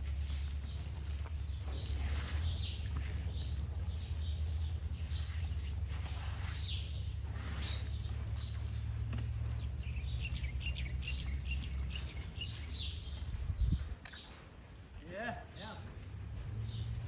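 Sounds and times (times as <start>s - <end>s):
low rumble: 0.0s - 14.1s
birds chirping: 0.0s - 17.0s.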